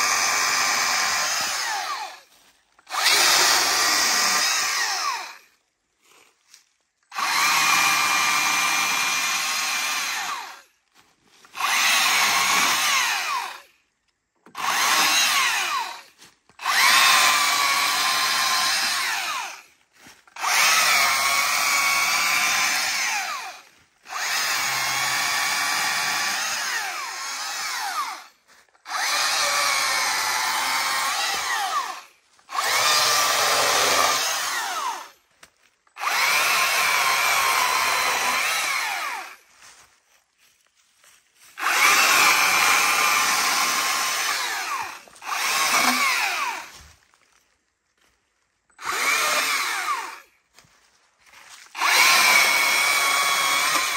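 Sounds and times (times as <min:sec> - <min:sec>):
chainsaw cutting wood: 0:00.0 - 0:06.3, 0:07.1 - 0:10.8, 0:11.4 - 0:13.8, 0:14.4 - 0:39.5, 0:41.5 - 0:46.9, 0:48.7 - 0:50.7, 0:51.3 - 0:53.9.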